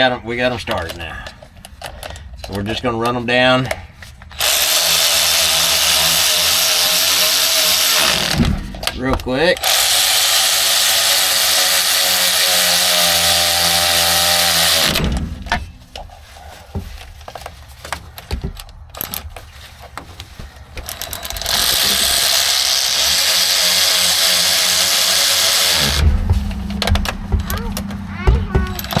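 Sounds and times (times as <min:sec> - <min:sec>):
power drill driving bolts: 0:00.0 - 0:16.1, 0:17.2 - 0:29.0
clicking and handling: 0:00.0 - 0:29.0.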